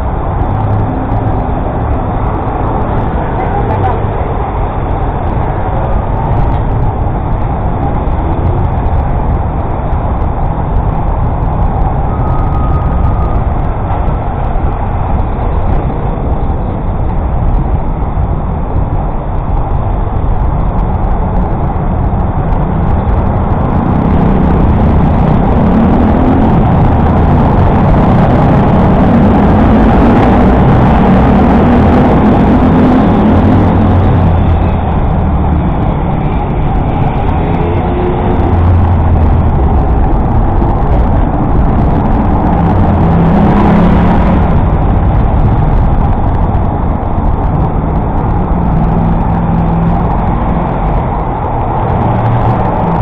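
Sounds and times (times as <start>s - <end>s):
rumble of motor vehicles: 0.0s - 53.0s.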